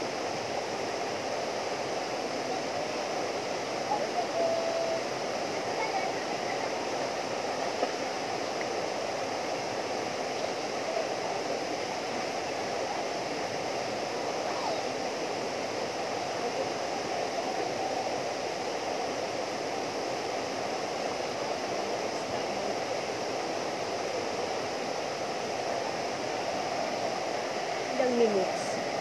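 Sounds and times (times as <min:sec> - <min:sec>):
waterfall rushing into pool: 0:00.0 - 0:29.0.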